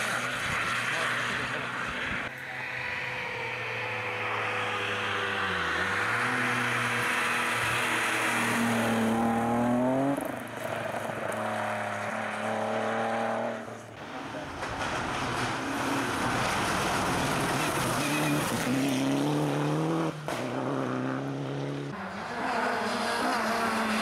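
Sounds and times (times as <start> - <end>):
rally car engine accelerating: 3.5 - 24.0
car pulling away: 3.6 - 24.0.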